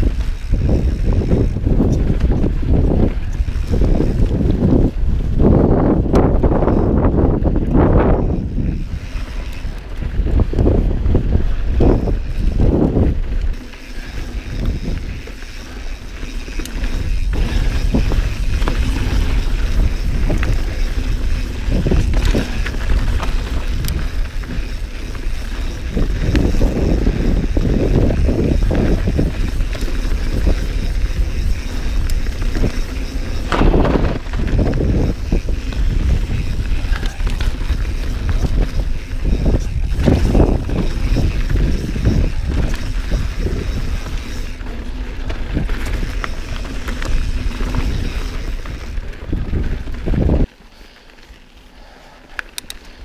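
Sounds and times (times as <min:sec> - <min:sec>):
wind on microphone: 0:00.0 - 0:50.9
bike rattling: 0:00.0 - 0:53.0
bike tyres rolling on dirt: 0:00.0 - 0:53.0.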